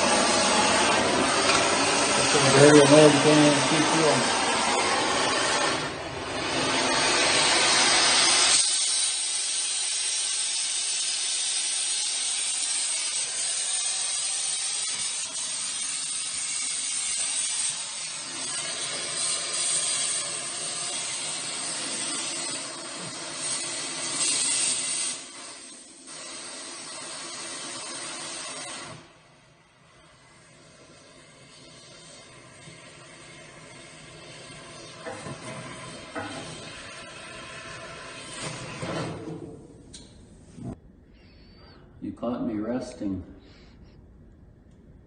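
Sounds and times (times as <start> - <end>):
cutting torch flame hissing: 0.0 - 40.8.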